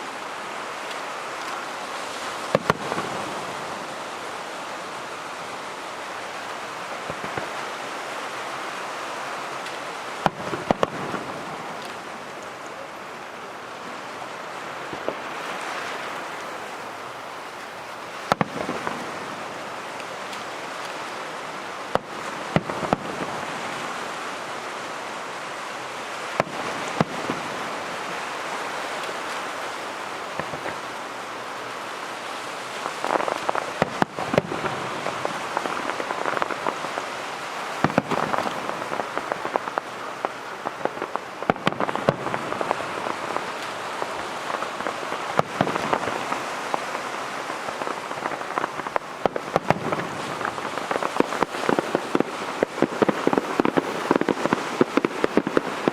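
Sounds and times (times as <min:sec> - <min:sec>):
fireworks crackling and banging: 0:00.8 - 0:12.9, 0:13.9 - 0:24.4, 0:26.0 - 0:55.9.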